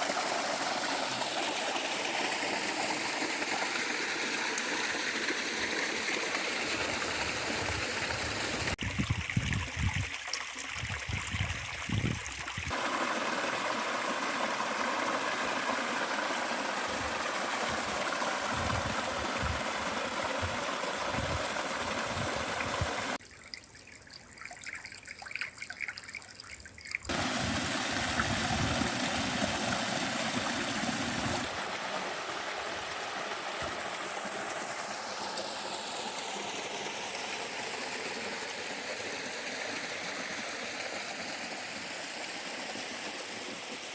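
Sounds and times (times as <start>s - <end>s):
stream water running: 0.0s - 43.9s.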